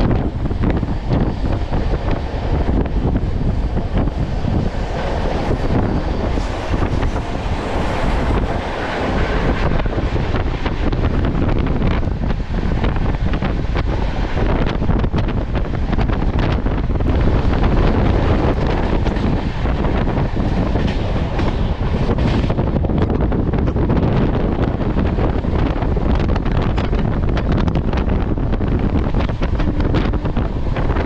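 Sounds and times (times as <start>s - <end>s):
train rumble: 0.0s - 31.0s
wind buffeting the microphone: 0.0s - 31.0s.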